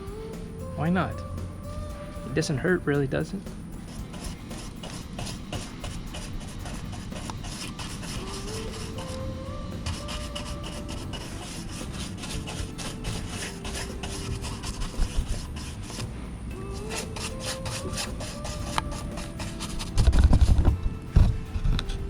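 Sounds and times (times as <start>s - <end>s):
paintbrush strokes on wood: 0.0s - 21.6s.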